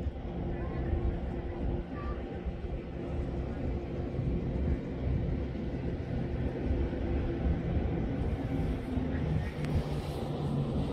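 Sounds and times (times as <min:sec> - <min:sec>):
cable car hum: 0:00.0 - 0:10.9
wind buffeting microphone: 0:00.0 - 0:10.9.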